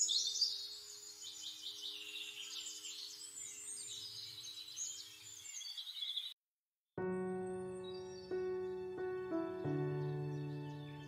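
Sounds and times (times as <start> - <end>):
birds chirping: 0.0 - 6.4, 7.1 - 11.0.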